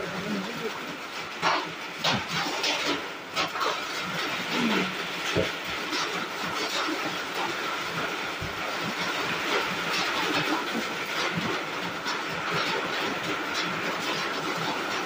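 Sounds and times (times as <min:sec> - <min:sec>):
rain pattering on roof: 0:00.0 - 0:15.0.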